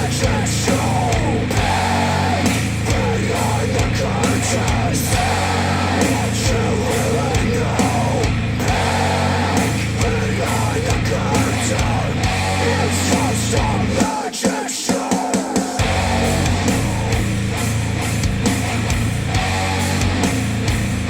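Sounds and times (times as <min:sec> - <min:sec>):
heavy rock music through speakers: 0:00.0 - 0:21.0.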